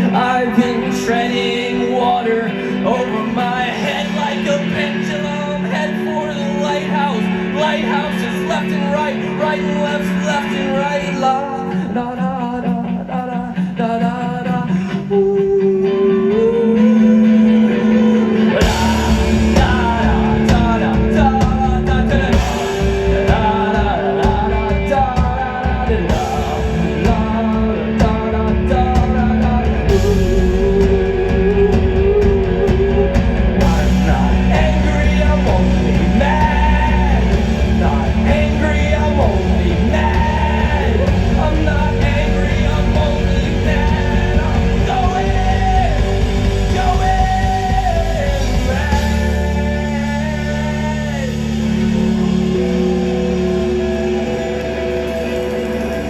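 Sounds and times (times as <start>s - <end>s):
person singing: 0.0s - 56.0s
rock band playing loud: 0.0s - 56.0s.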